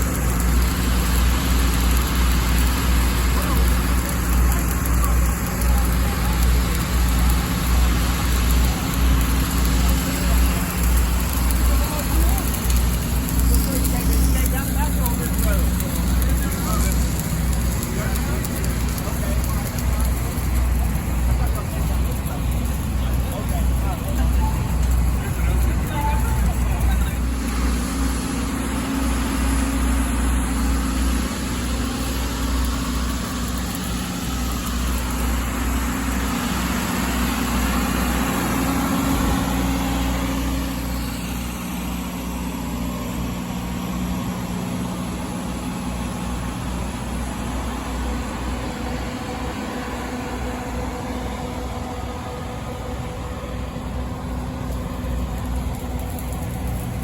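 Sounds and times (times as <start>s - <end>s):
heavy engine running steadily: 0.0s - 57.0s.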